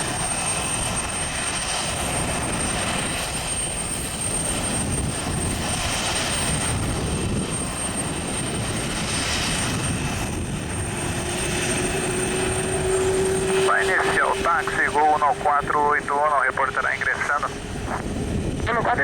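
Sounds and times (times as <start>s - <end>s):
jet engines rushing with whine: 0.0s - 19.0s.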